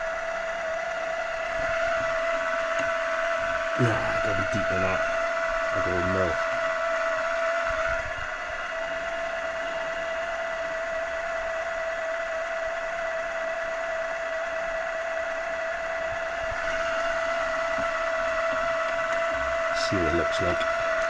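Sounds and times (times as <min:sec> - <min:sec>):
drill cutting metal: 0:00.0 - 0:21.0
milling machine spindle whine: 0:00.0 - 0:21.0.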